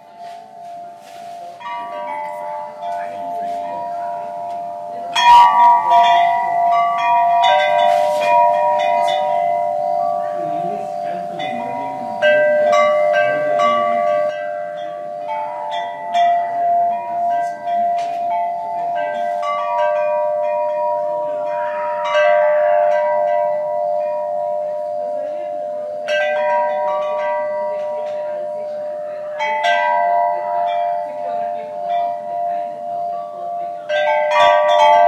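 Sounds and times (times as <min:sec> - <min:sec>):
chimes ringing: 0:00.0 - 0:35.0.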